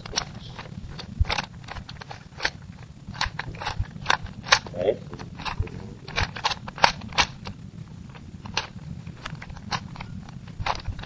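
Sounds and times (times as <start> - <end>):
low background hum: 0.0 - 11.0
puzzle cube clicking: 0.0 - 11.0.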